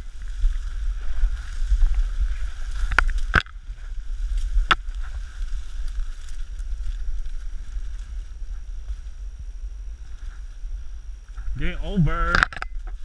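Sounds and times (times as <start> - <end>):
reeds rustling against microphone: 0.0 - 13.0
steady low rumble: 0.0 - 13.0.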